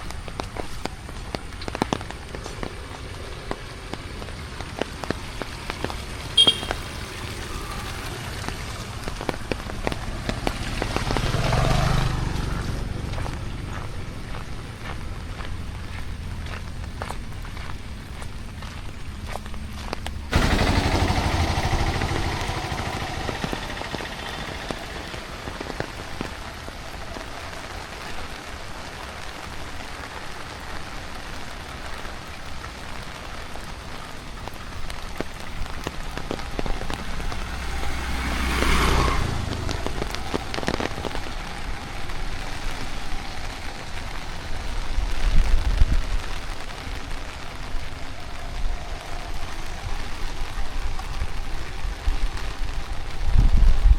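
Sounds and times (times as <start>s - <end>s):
steady rain falling: 0.0s - 53.9s
vehicles passing with low rumble: 0.0s - 53.9s.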